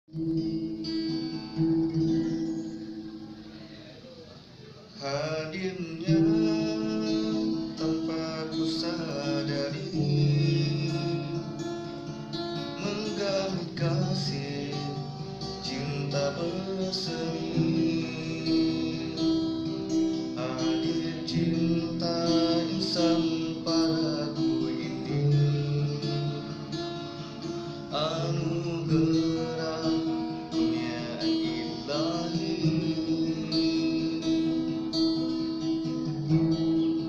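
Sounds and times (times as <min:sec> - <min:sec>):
acoustic guitar plucked and strummed: 0:00.1 - 0:37.0.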